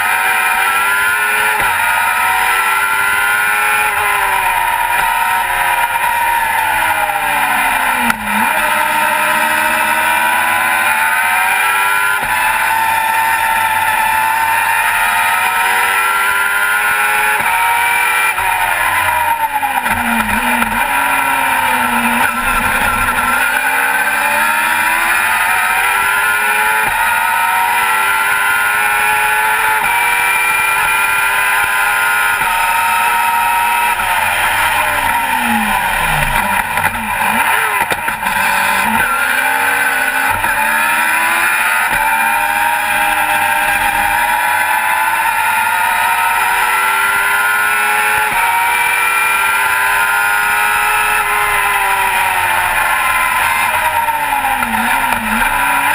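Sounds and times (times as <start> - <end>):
racing car engine accelerating: 0.0 - 55.9.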